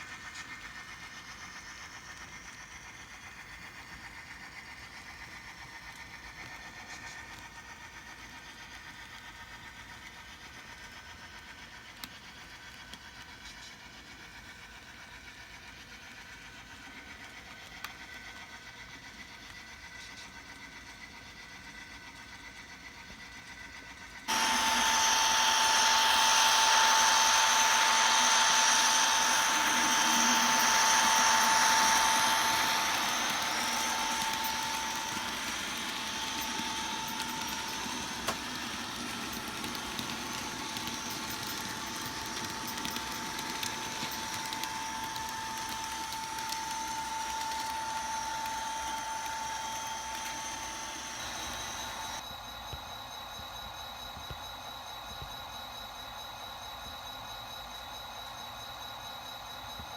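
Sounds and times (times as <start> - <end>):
model train running with whine: 0.0 - 59.9.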